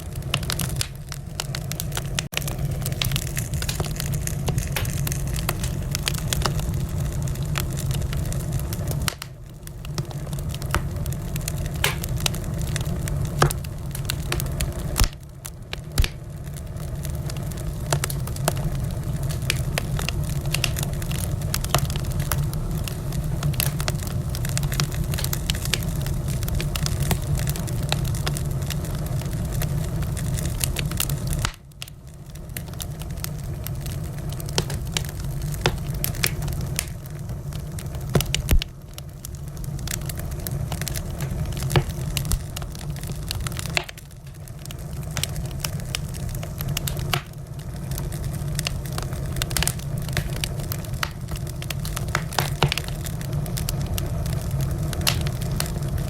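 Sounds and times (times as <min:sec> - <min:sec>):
low fire rumble: 0:00.0 - 0:56.0
wood fire crackling and popping: 0:00.0 - 0:56.0.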